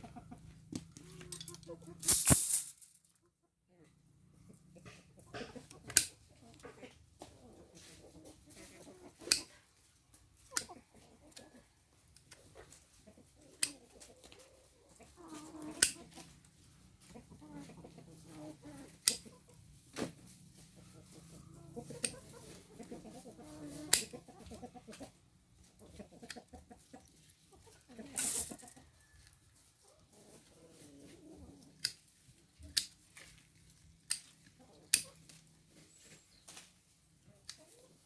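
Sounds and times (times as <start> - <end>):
chickens clucking: 0.0 - 2.2, 3.1 - 38.0.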